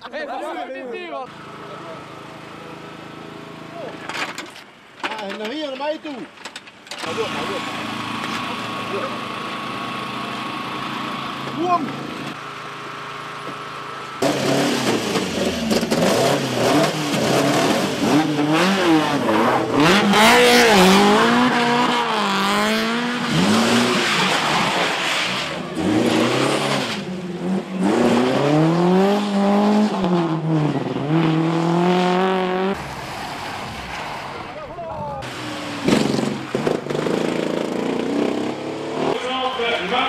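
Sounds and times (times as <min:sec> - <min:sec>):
rally car engines revving: 0:06.9 - 0:40.0.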